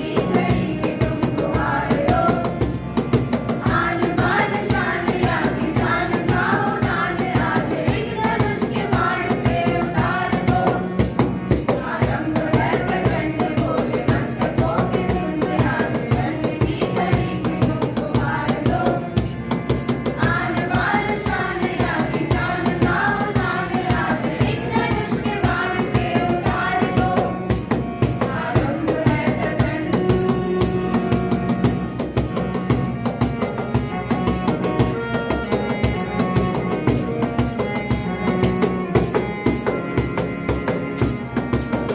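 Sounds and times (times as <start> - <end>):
jingling hand percussion: 0.0 - 41.9.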